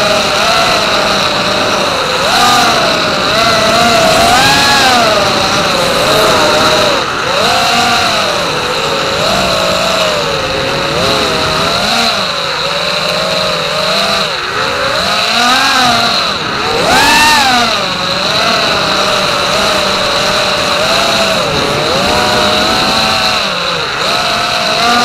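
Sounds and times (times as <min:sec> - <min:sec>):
drone motors buzzing whine: 0:00.0 - 0:25.0.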